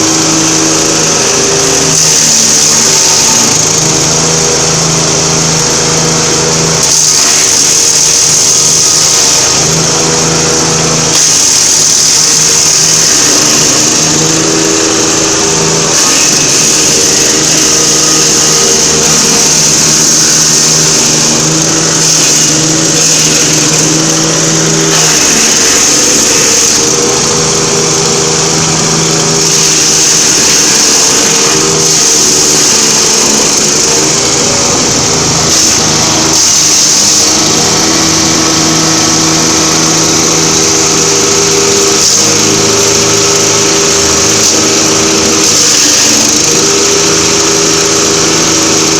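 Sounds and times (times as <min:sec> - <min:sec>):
wood chipper engine running: 0:00.0 - 0:48.9.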